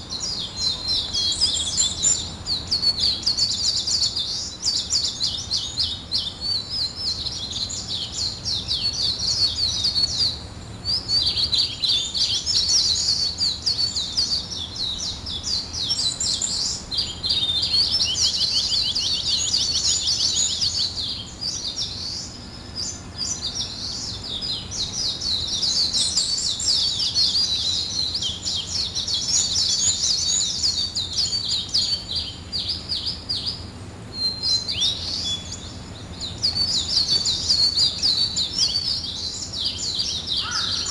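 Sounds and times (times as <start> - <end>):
songbirds twittering: 0.0 - 40.9.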